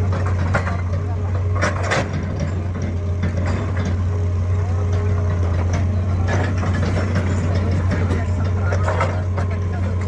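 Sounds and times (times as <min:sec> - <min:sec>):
diesel excavator engine running: 0:00.0 - 0:10.0.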